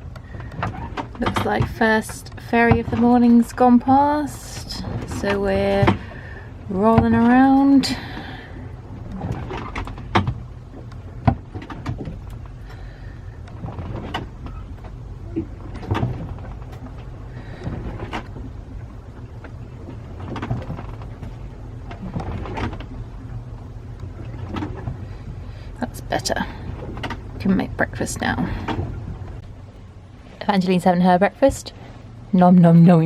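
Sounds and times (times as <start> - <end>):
boat cabin creaking: 0.0 - 33.0
steady low hum: 0.0 - 33.0.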